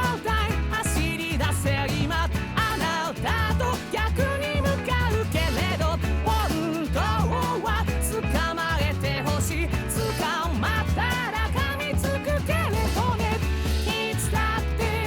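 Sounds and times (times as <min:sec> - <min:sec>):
pop-rock song with male singer: 0:00.0 - 0:15.0
pulsing bass line: 0:00.0 - 0:15.0.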